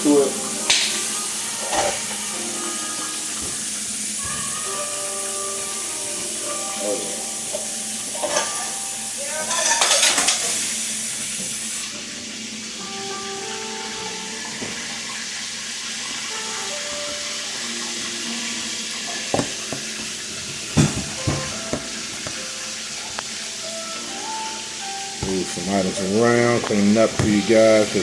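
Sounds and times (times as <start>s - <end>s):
chicken frying in hot oil: 0.0s - 28.0s.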